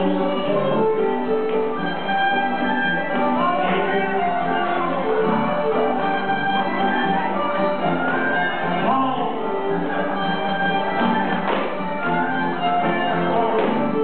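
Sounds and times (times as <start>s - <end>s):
live dance band playing: 0.0s - 14.0s.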